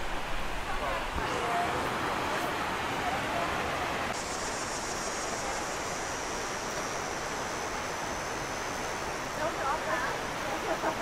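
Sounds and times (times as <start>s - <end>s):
waterfall and rapids rushing: 0.0s - 11.0s.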